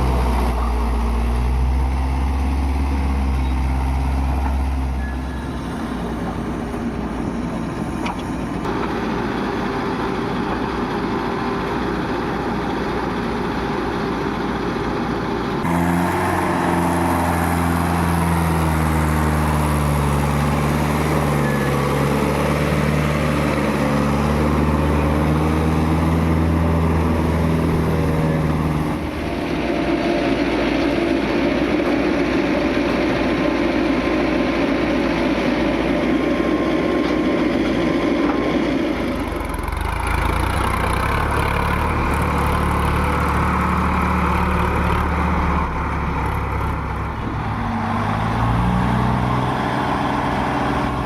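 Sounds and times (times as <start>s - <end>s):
heavy diesel engines running: 0.0s - 51.0s.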